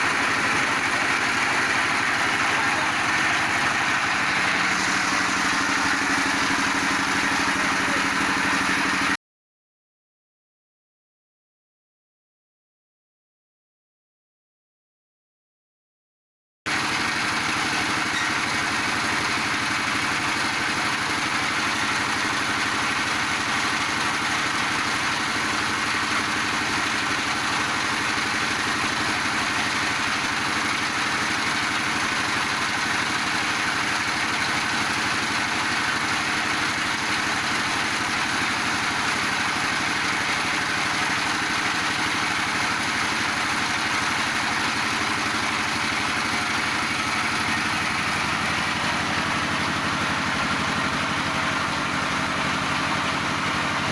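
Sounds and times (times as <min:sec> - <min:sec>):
pellet machine droning: 0:00.0 - 0:09.2, 0:16.7 - 0:53.9.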